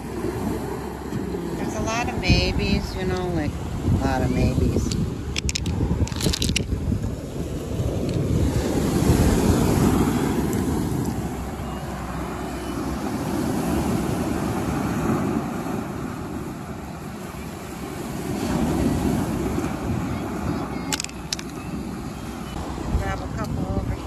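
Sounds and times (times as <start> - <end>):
waves surging on cobble beach: 0.0 - 24.0
wind buffeting microphone: 0.0 - 24.0.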